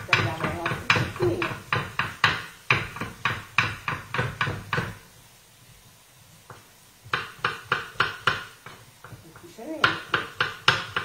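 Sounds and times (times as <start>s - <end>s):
knife chopping on wooden board: 0.0s - 5.0s, 7.1s - 11.0s.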